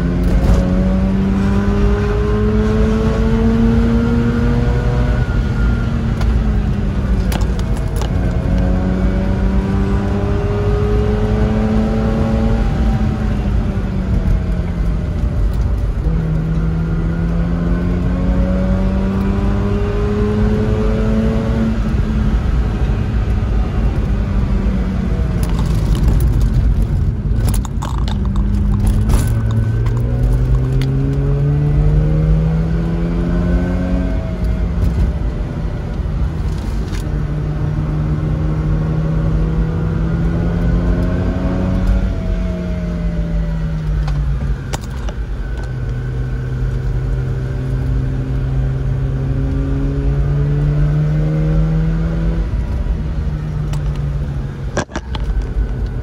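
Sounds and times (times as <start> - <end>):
sports car engine revving: 0.0 - 56.0
tyre and road rumble: 0.0 - 56.0.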